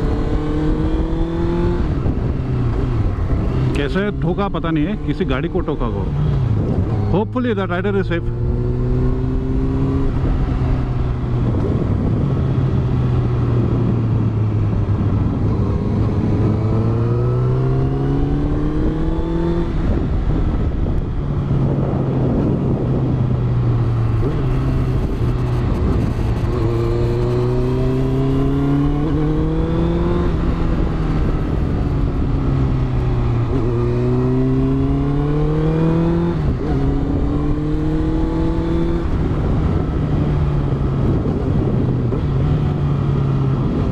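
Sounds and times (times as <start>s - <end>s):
motorcycle engine revving: 0.0s - 43.9s
wind rush: 0.0s - 43.9s.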